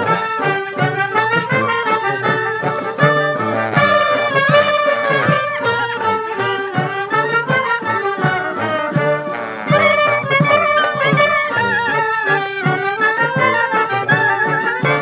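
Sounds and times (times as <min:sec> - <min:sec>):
brass horns playing tune: 0:00.0 - 0:15.0
klezmer band playing: 0:00.0 - 0:15.0.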